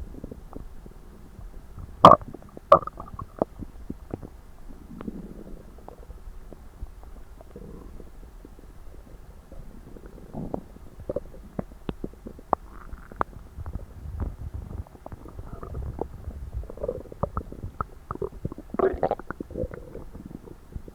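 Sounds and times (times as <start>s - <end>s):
stomach gurgling: 0.0s - 20.9s.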